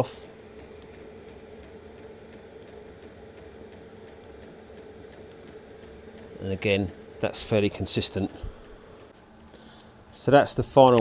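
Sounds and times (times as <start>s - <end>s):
heater blower humming: 0.0s - 11.0s.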